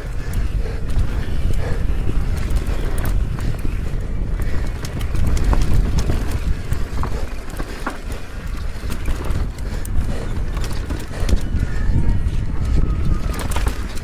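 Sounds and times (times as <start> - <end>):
bike rattling clicks and knocks: 0.0 - 14.0
rumble of tyres and wind: 0.0 - 14.0.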